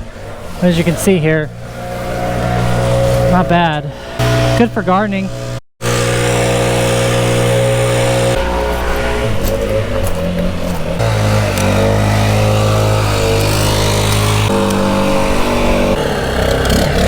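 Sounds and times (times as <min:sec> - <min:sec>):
chainsaw cutting wood: 0:00.4 - 0:17.0.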